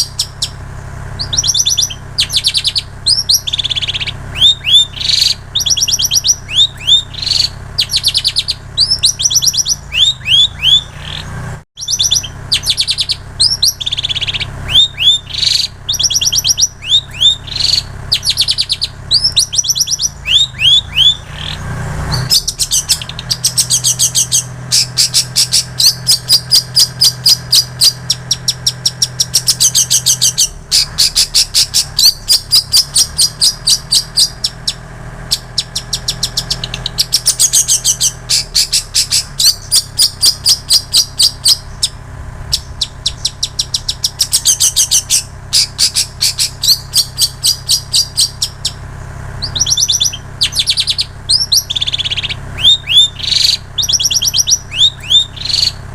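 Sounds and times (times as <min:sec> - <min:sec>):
bird song with chirps and trills: 0:00.0 - 0:55.9
steady low hum: 0:00.0 - 0:55.9.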